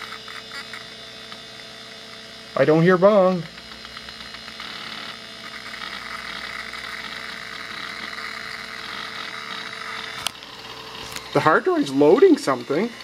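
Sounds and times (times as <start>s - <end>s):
computer hard drive whirring: 0.0s - 13.0s.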